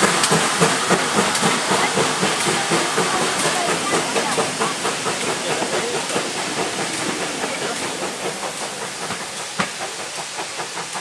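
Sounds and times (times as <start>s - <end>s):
steam hissing: 0.0s - 11.0s
train wheels clicking: 0.0s - 11.0s.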